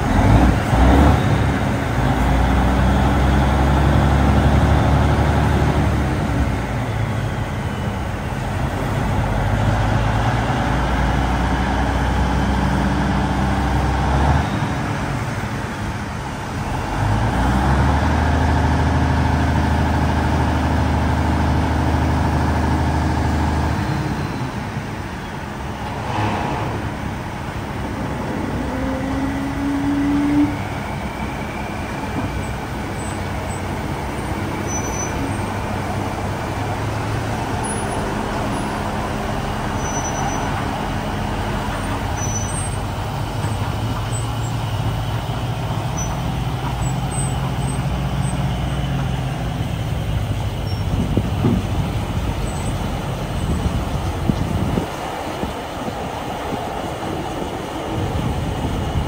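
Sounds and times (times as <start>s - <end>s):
crane diesel engine running: 0.0s - 59.0s.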